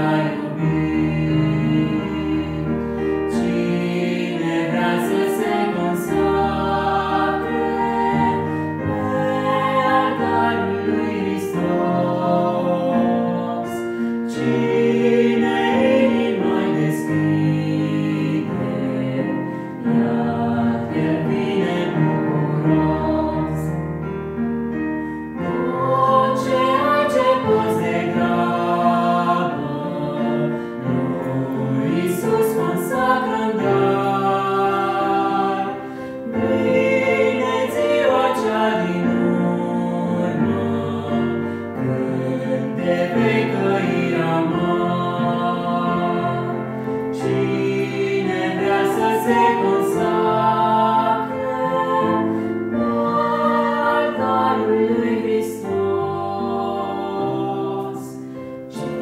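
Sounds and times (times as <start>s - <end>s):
vocal trio singing in harmony: 0.0s - 59.0s.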